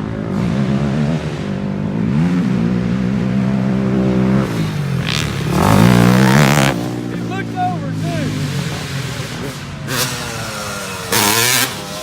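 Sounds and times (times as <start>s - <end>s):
off-road vehicle engine: 0.0s - 12.0s.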